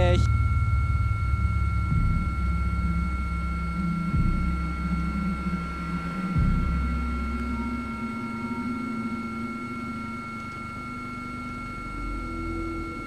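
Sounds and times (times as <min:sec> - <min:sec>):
helicopter low rumble: 0:00.0 - 0:12.9
helicopter turbine whine: 0:00.0 - 0:13.0.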